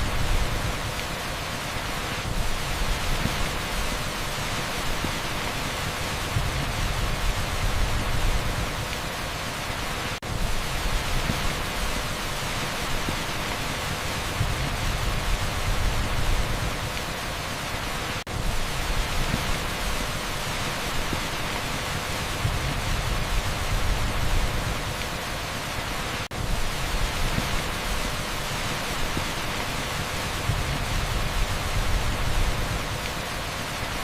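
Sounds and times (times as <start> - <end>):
torrential rain on a street: 0.0 - 34.0.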